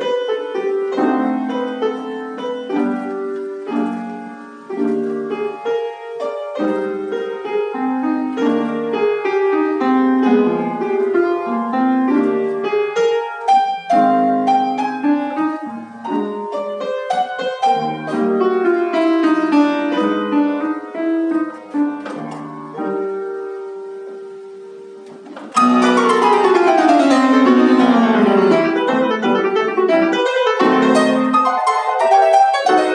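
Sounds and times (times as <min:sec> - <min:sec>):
solo piano playing: 0:00.0 - 0:32.9.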